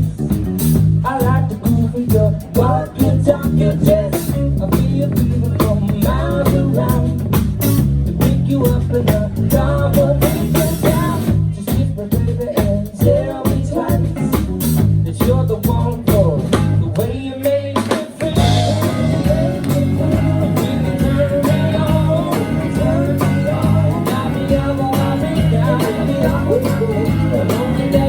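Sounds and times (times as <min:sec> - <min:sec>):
band playing a song: 0:00.0 - 0:28.0
drums keeping a steady beat: 0:00.0 - 0:28.0
person singing lead vocal: 0:01.0 - 0:28.0.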